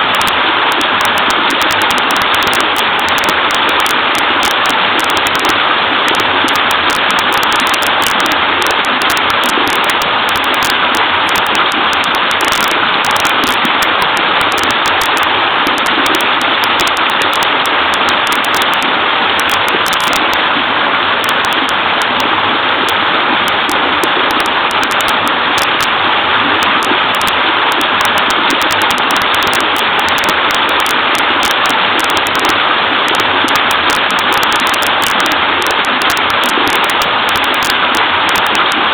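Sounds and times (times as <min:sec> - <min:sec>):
small waterfall babbling: 0:00.0 - 0:38.9.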